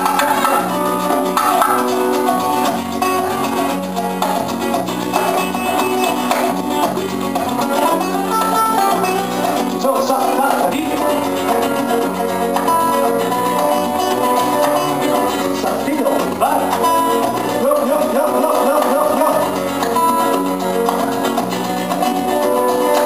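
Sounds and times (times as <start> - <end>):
acoustic guitars playing melody: 0.0 - 23.0
bass: 0.0 - 23.0
percussion: 0.0 - 23.0.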